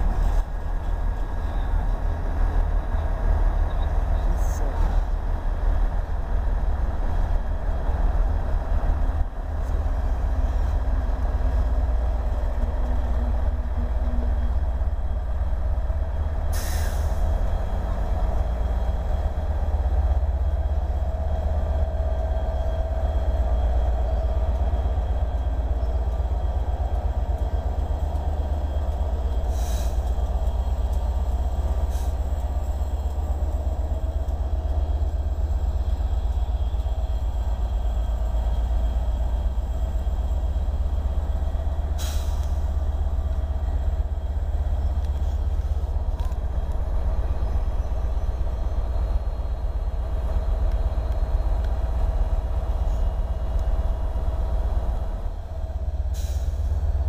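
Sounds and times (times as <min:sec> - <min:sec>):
train wheels and diesel engine rumbling: 0:00.0 - 0:57.0.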